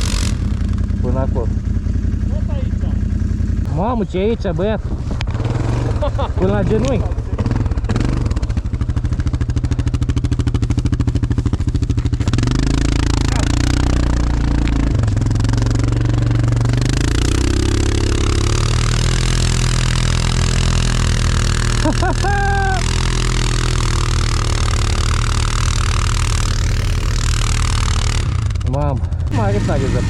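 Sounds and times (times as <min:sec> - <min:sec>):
tyres churning through snow: 0:00.0 - 0:01.5, 0:03.8 - 0:30.0
atv engine revving: 0:00.0 - 0:30.0.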